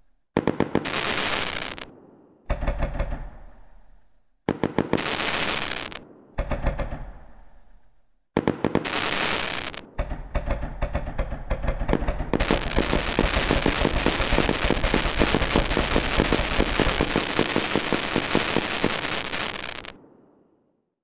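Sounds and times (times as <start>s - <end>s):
fireworks crackling: 0.4s - 1.9s, 2.5s - 7.6s, 8.4s - 20.0s.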